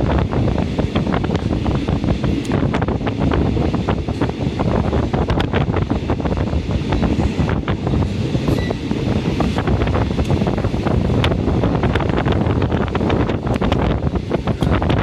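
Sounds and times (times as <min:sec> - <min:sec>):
train clattering and rattling: 0:00.0 - 0:15.0
train rumble on track: 0:00.0 - 0:15.0
wind buffeting microphone: 0:00.0 - 0:15.0.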